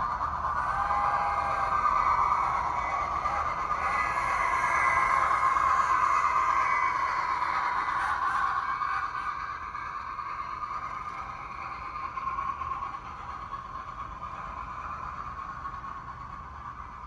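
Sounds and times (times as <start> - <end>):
model train running on track: 0.0 - 17.0.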